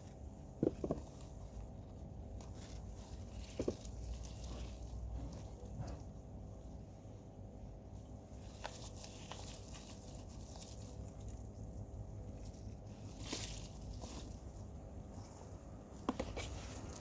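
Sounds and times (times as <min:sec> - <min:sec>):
earth and tubers crunching: 0:00.0 - 0:06.9, 0:08.1 - 0:17.0
scraping rustle: 0:00.6 - 0:06.2, 0:08.0 - 0:17.0.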